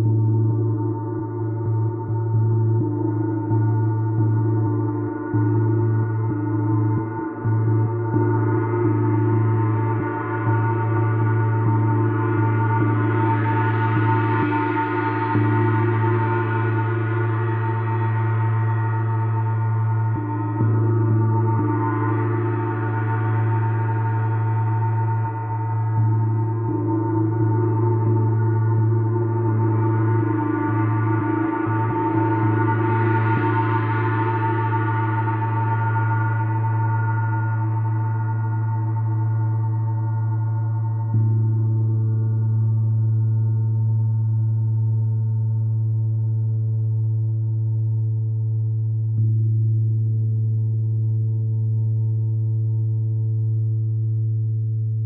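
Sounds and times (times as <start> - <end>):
deep steady hum: 0.0 - 55.0.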